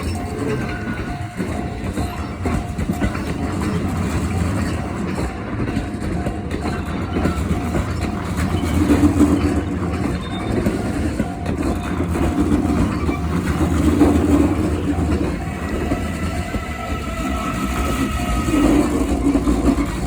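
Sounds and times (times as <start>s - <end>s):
level crossing alarm ringing: 0.0s - 20.0s
low rumble of passing train: 0.0s - 20.0s.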